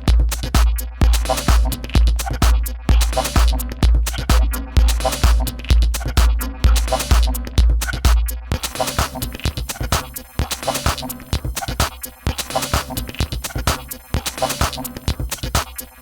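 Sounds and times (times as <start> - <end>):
kick drum: 0.0 - 15.9
clicking percussion: 0.0 - 16.0.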